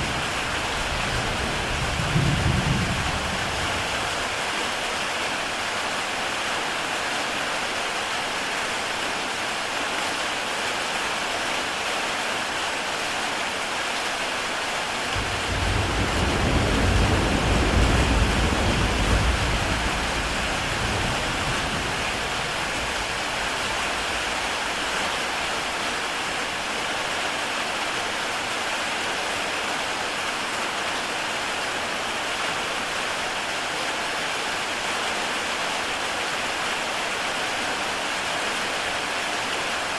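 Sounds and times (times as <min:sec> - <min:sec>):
heavy rain on a tile roof: 0:00.0 - 0:39.9.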